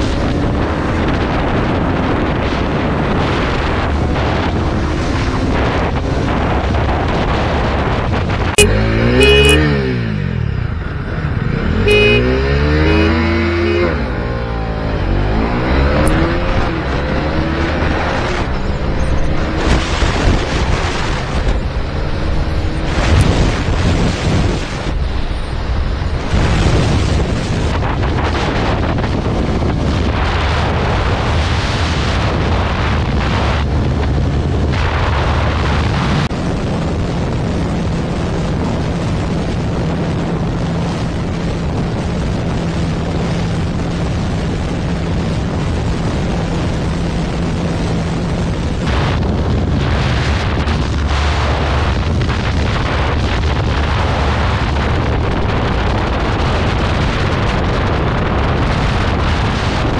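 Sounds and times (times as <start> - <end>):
wind buffeting microphone: 0.0 - 8.6, 14.0 - 59.9
motorcycle engine at high speed: 0.0 - 59.9.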